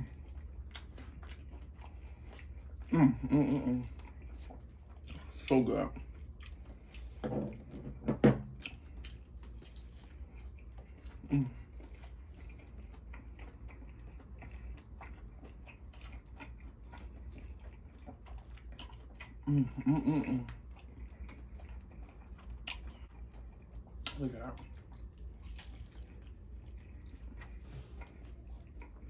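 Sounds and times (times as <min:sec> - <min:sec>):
close chewing and mouth smacking: 0:00.0 - 0:29.0.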